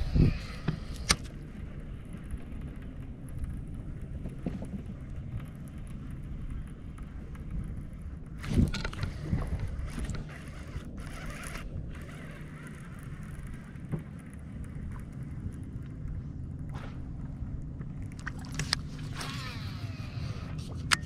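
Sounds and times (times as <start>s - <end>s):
boat engine rumble: 0.0s - 21.0s.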